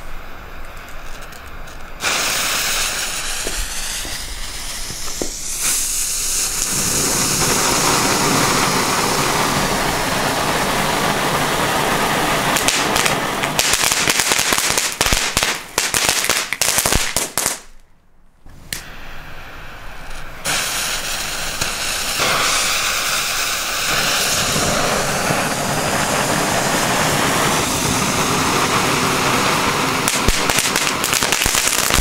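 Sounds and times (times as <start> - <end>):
firework fountain hissing: 0.0 - 17.7, 18.6 - 32.0
firework crackling pops: 0.0 - 17.9, 18.5 - 32.0.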